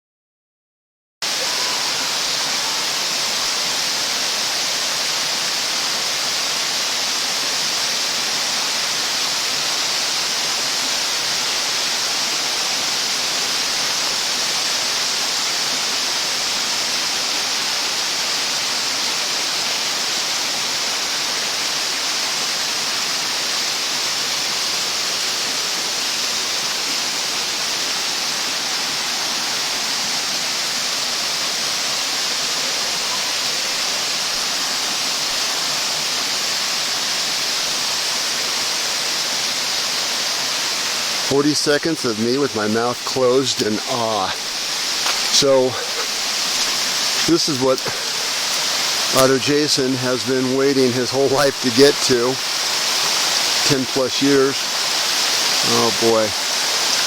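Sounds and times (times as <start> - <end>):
waterfall roaring: 1.2 - 57.0.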